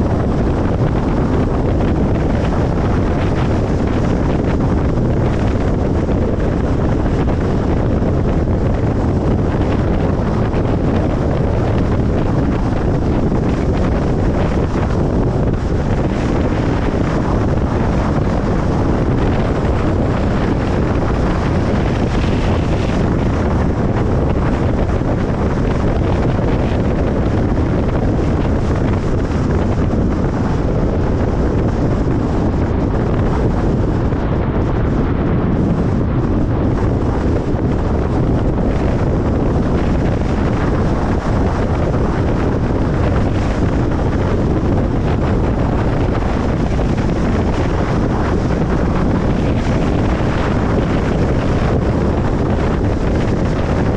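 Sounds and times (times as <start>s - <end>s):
car road noise: 0.0s - 53.9s.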